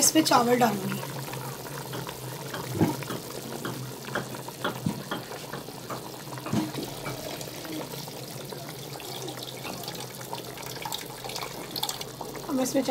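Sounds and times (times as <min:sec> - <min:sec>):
water boiling in a pot: 0:00.0 - 0:12.9.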